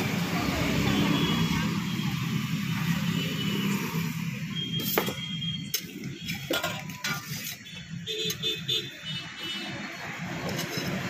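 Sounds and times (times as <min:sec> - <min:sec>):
street noise hum: 0:00.0 - 0:11.0.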